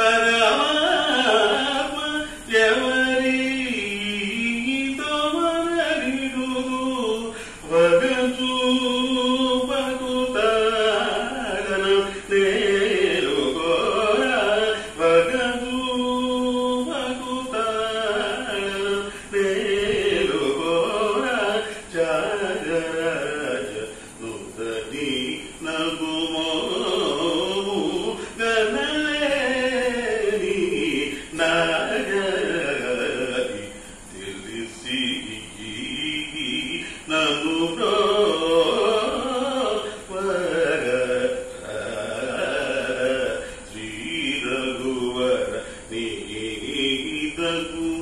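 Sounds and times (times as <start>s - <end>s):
man singing into a microphone: 0.0s - 48.0s.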